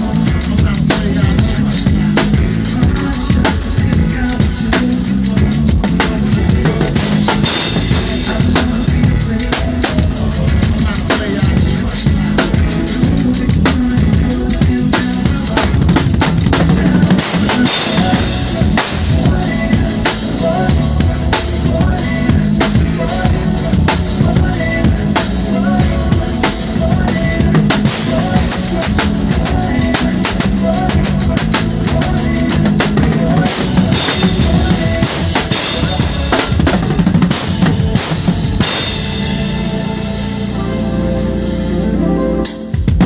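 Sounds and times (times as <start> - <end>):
drum kit played fast: 0.0 - 43.0
sustained low notes: 0.0 - 43.0.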